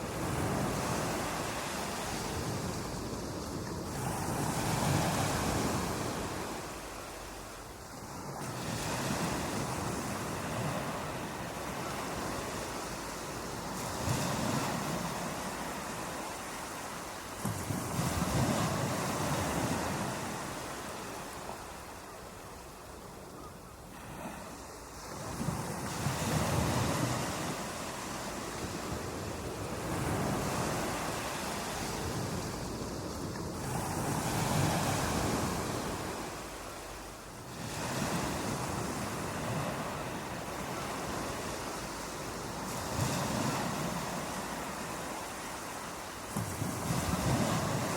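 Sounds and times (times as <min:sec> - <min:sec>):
ocean surf breaking on beach: 0:00.0 - 0:47.9.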